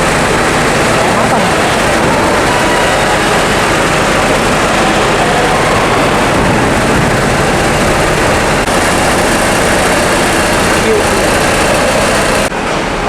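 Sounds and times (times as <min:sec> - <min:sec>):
drone of heavy engines: 0:00.0 - 0:13.0.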